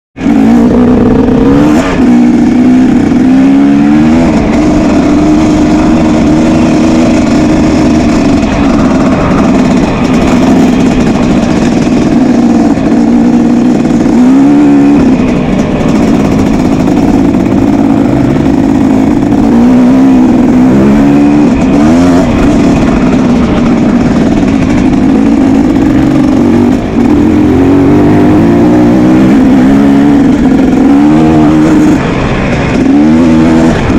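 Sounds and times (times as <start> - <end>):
motorcycle engines revving: 0.2 - 33.9.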